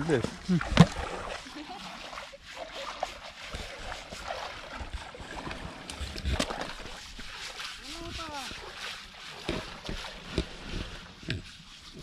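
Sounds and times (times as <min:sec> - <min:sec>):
river water splashing and trickling: 0:00.0 - 0:12.0
small splashes: 0:00.0 - 0:12.0.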